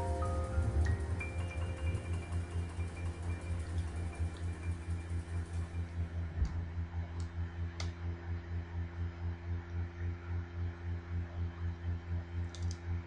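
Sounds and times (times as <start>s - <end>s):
pulsing electrical hum: 0.0s - 13.0s.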